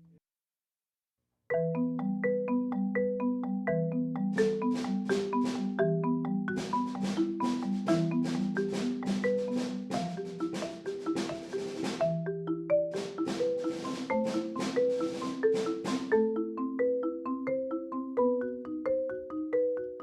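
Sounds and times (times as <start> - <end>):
marimba played with mallets: 1.5 - 20.0.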